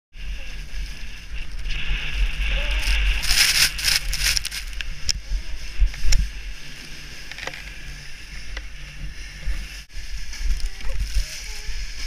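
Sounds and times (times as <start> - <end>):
wind buffeting microphone: 0.1 - 12.0
hiss of snow: 0.2 - 12.0.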